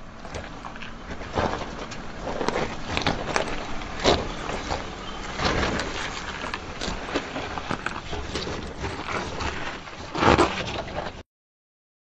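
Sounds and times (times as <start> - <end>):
stones clattering under wheels: 0.0 - 11.2
tyres crunching over gravel: 0.0 - 11.2.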